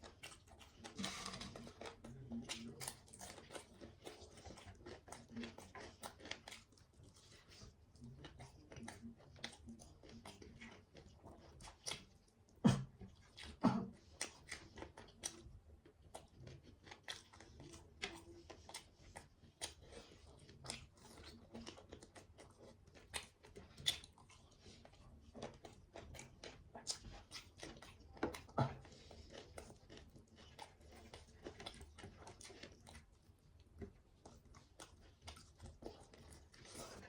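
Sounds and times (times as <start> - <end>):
chewing and crunching food: 0.0 - 37.0.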